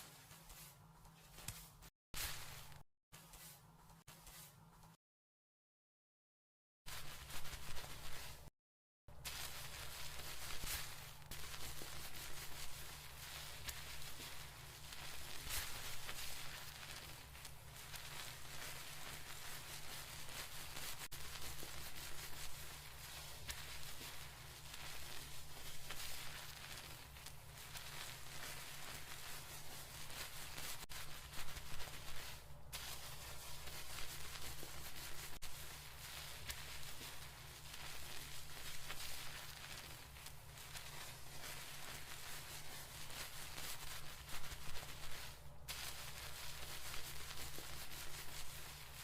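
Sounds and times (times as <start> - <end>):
hands scrubbing hair: 0.0 - 4.6, 9.3 - 49.0.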